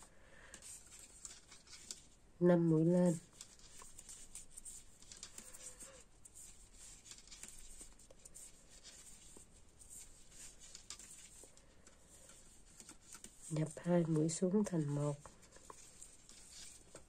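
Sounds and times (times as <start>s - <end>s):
yarn rustling: 0.0s - 17.0s.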